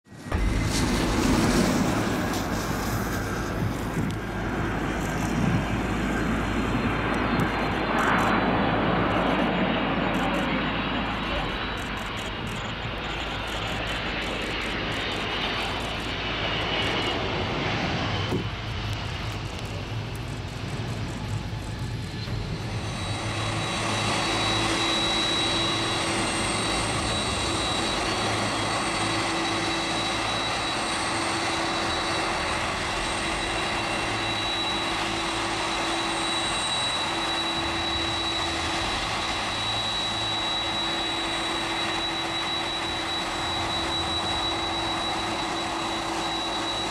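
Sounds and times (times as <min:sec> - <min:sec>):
jet engine whine: 0:00.0 - 0:46.9
jet engines rushing: 0:00.0 - 0:46.9.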